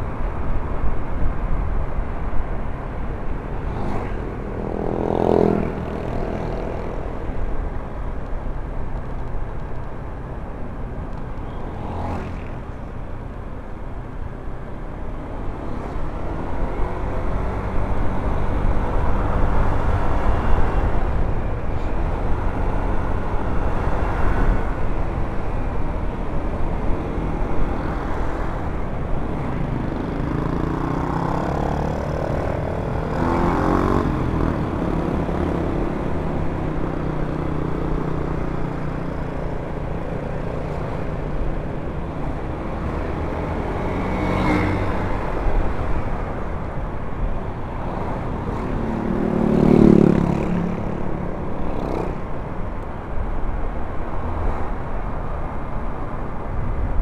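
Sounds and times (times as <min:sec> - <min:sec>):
traffic passing: 0:00.0 - 0:57.0.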